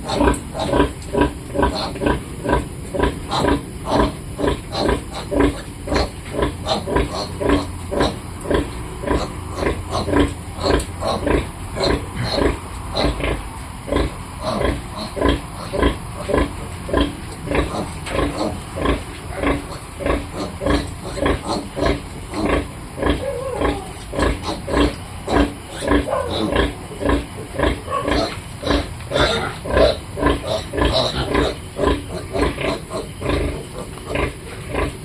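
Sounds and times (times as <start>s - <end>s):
piglets grunting and squealing: 0.0s - 35.0s.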